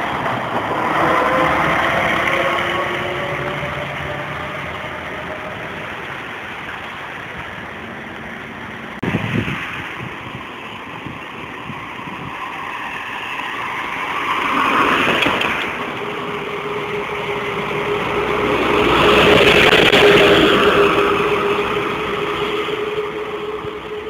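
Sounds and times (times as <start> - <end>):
bus diesel engine passing: 0.0 - 24.0
steady whine: 0.0 - 24.0
traffic noise: 0.0 - 24.0.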